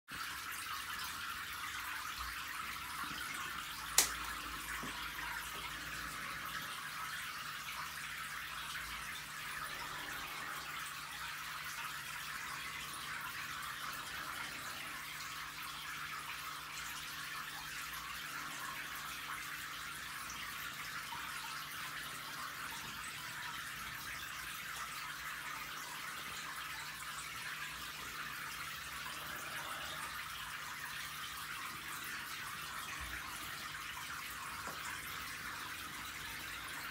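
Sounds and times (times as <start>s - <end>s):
aquarium water trickling: 0.1s - 36.9s.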